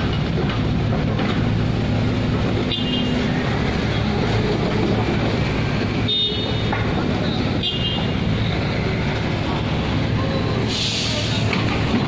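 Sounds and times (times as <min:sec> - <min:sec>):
heavy diesel engines rumbling: 0:00.0 - 0:12.0.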